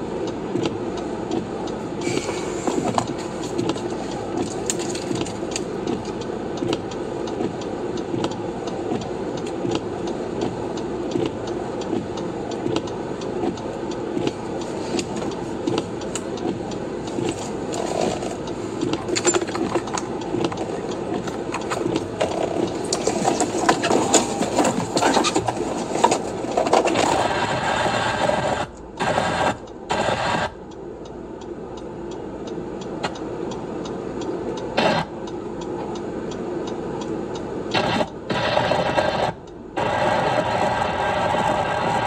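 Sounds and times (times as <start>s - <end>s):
car cabin engine and road rumble: 0.0s - 42.0s.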